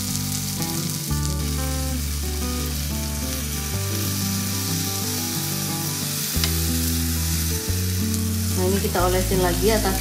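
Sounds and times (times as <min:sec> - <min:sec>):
prawns sizzling in a pan: 0:00.0 - 0:10.0.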